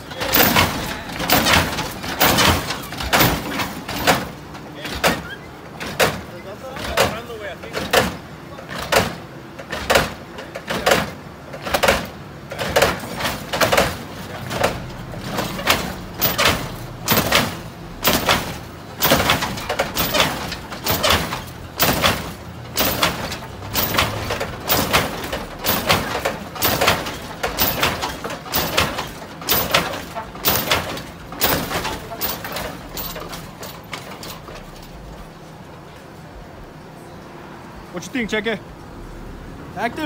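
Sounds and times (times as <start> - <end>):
car banging down on suspension: 0.0 - 35.4.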